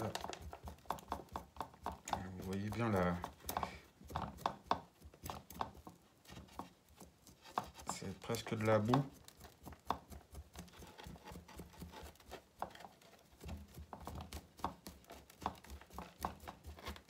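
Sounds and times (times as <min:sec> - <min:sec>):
chopstick scraping soil: 0:00.0 - 0:17.0.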